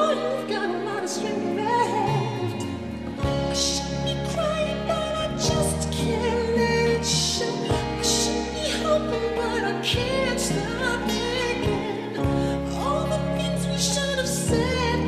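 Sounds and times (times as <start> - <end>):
person singing: 0.0 - 15.0
low bass notes: 1.4 - 15.0.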